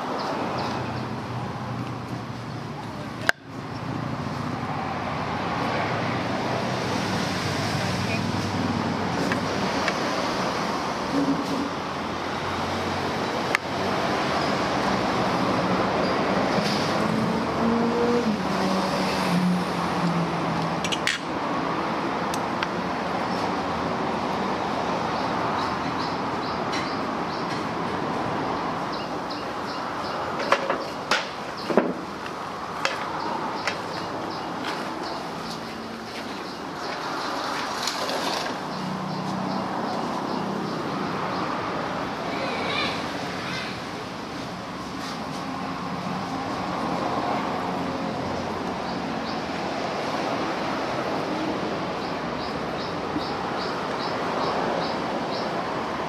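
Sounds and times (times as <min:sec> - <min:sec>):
busy roadside din: 0:00.0 - 0:56.0.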